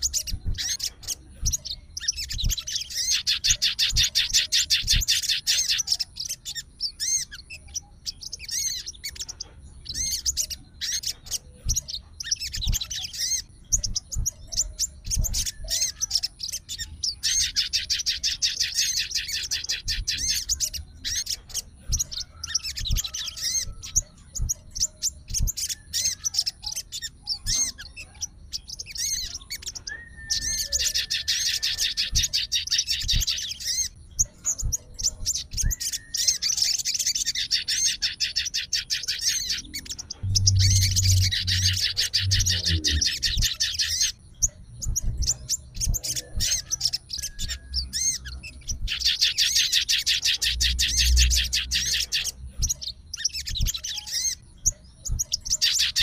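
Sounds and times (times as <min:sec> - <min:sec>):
songbird chattering trills: 0:00.0 - 0:56.0.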